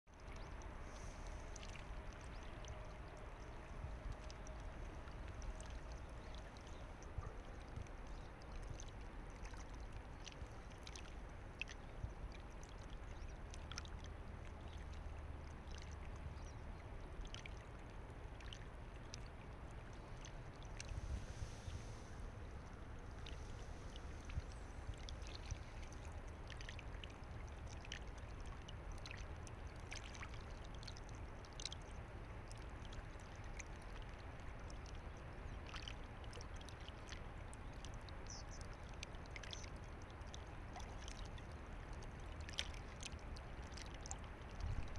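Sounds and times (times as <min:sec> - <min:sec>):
small clicks and splashes: 0:00.1 - 0:21.0, 0:22.4 - 0:44.9
river water running: 0:00.1 - 0:44.9.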